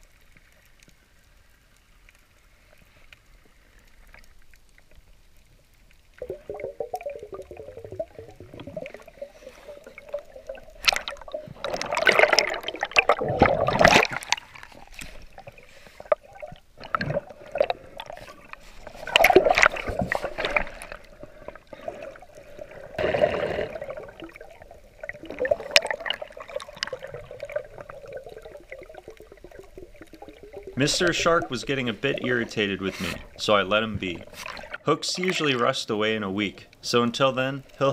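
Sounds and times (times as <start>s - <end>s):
underwater bubbling and gurgling: 0.0s - 36.8s.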